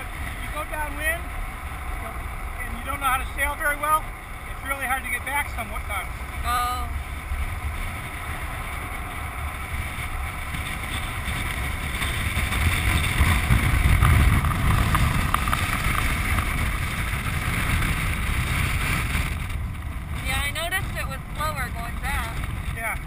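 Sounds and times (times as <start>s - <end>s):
wheels rumbling on hard ground: 0.0s - 23.0s
wind rushing over microphone: 0.0s - 23.0s.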